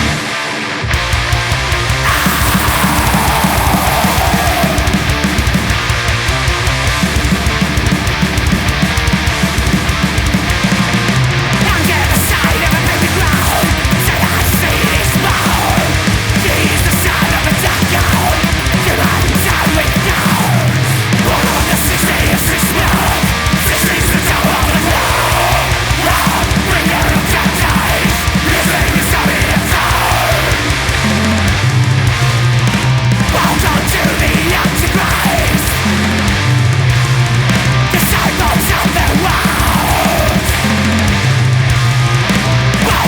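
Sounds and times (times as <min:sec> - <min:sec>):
distorted electric guitars: 0:00.0 - 0:43.0
rapid drumming: 0:00.9 - 0:43.0.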